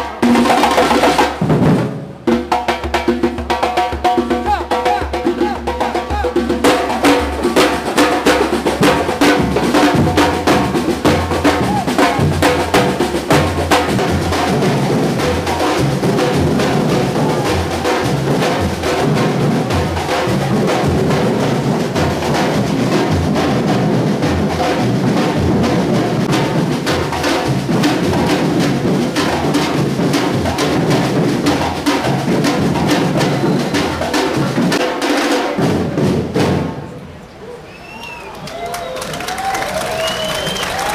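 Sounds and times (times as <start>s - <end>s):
rapid snare drum strokes: 0.0s - 37.0s
deep bass drum beats: 1.4s - 34.8s.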